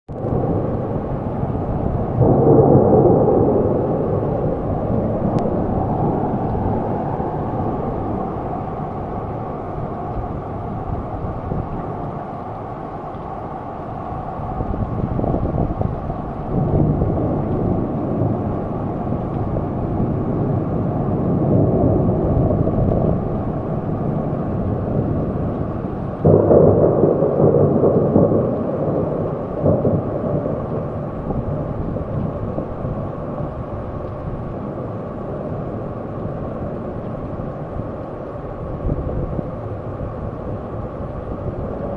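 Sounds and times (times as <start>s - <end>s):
heavy rain: 0.1s - 41.9s
wind: 0.1s - 41.9s.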